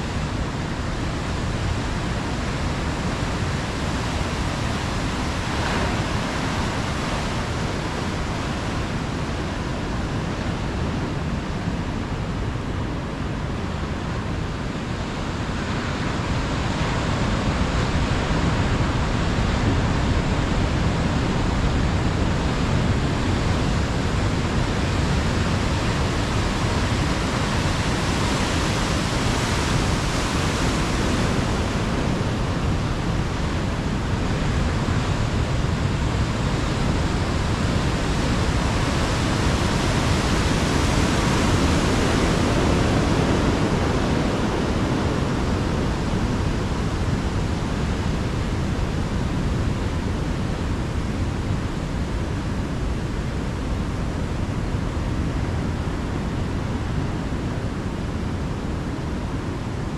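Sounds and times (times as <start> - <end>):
ocean surf: 0.0 - 59.9.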